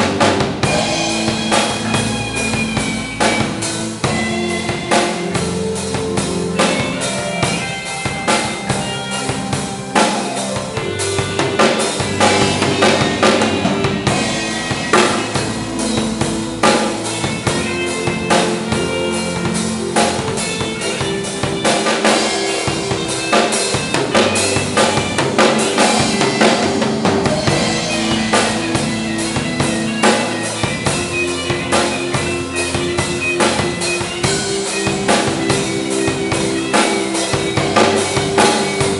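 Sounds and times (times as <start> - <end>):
driving drum beat: 0.0 - 38.9
instrumental band music: 0.0 - 38.9.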